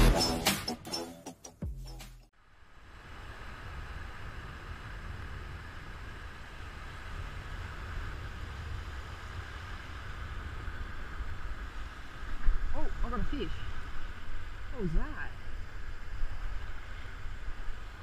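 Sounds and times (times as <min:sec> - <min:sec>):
small waves washing in: 0:02.8 - 0:18.0
wind rumble on microphone: 0:02.8 - 0:18.0.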